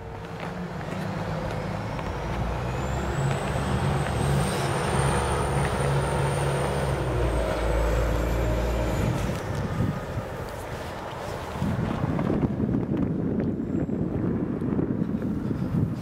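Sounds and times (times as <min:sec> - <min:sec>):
bus engine whining: 0:00.0 - 0:16.0.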